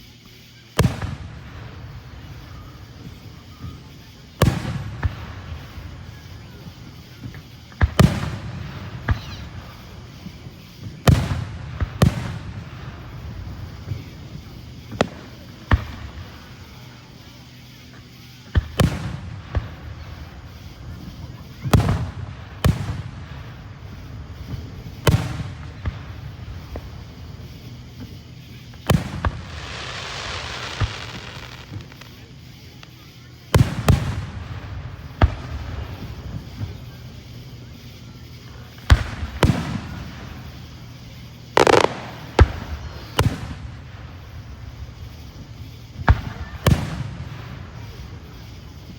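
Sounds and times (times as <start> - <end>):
fireworks bangs with echo: 0.7 - 48.9
hissing crackle: 1.0 - 48.9.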